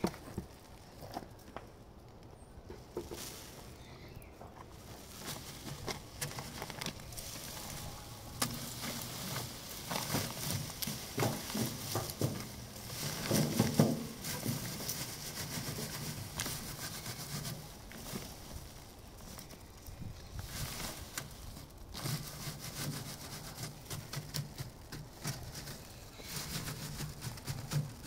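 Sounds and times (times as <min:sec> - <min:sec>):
dry stalks rustling and crackling: 0:00.0 - 0:28.0.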